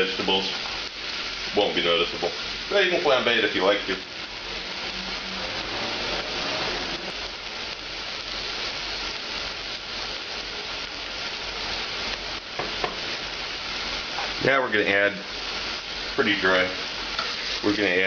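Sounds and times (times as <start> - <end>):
vegetables sizzling in a saucepan: 0.0 - 18.0.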